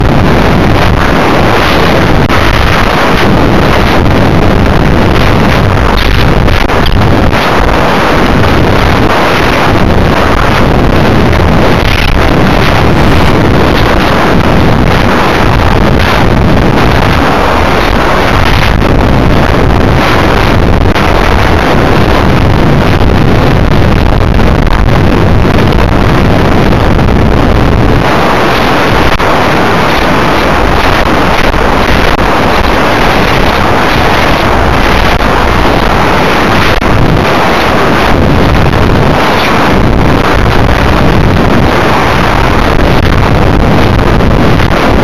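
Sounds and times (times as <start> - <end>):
wind rushing over microphone: 0.0 - 45.0.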